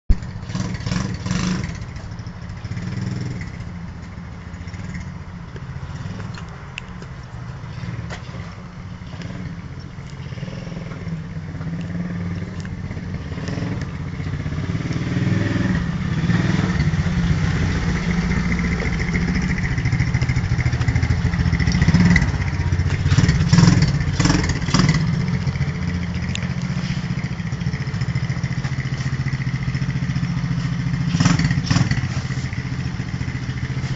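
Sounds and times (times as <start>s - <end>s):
pit bike engine running: 0.1s - 33.9s.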